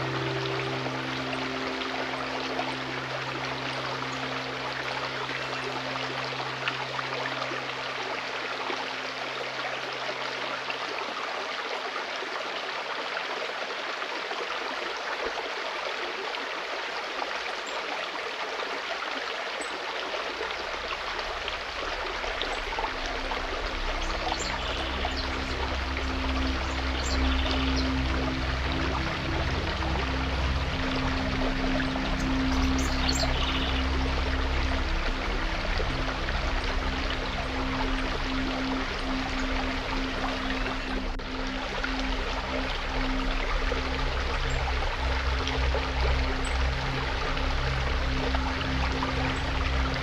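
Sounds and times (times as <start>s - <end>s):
low music drone: 0.0s - 11.3s, 20.4s - 50.0s
stream water flowing: 0.0s - 50.0s.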